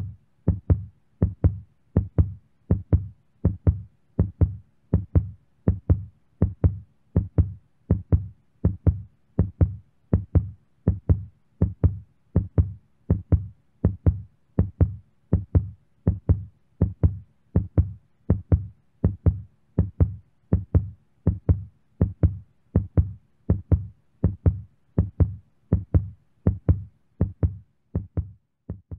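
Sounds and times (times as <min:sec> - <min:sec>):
heartbeat double thump: 0:00.5 - 0:28.9.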